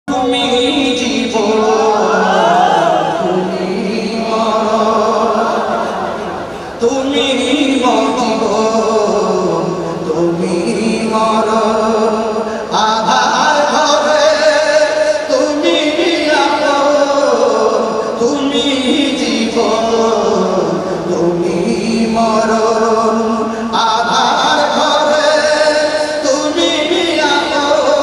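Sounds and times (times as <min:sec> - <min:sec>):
man singing devotional song: 0:00.0 - 0:28.0.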